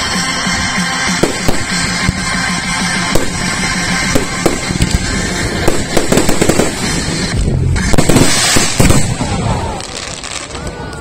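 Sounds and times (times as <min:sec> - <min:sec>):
firework bursts and bangs: 0:00.0 - 0:11.0
firework crackling hiss: 0:00.0 - 0:11.0.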